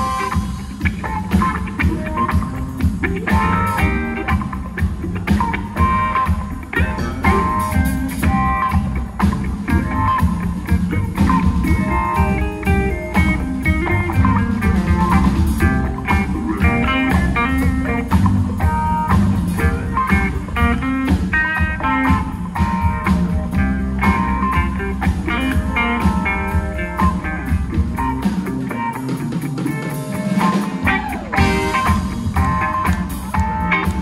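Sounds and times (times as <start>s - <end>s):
bass guitar: 0.0s - 34.0s
drums: 0.0s - 34.0s
electric guitar lines: 0.0s - 34.0s
live band playing rock: 0.0s - 34.0s.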